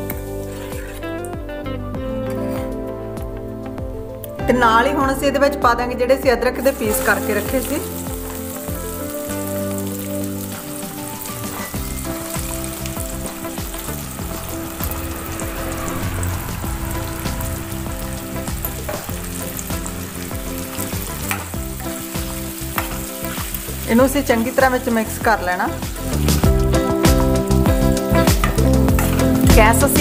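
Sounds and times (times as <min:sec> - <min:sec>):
ginger frying in hot oil: 0:00.0 - 0:01.3, 0:06.6 - 0:30.0.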